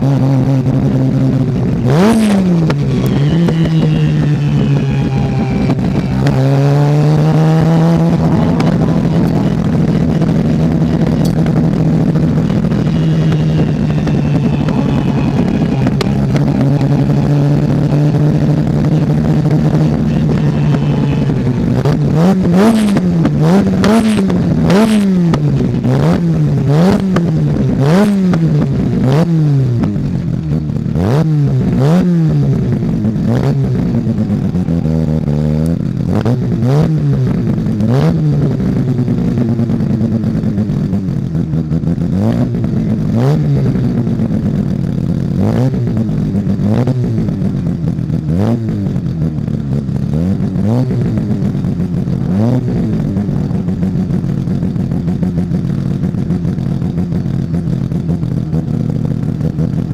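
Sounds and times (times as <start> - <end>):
race engine revving: 0.0 - 59.9
sharp exhaust cracks: 0.6 - 59.9.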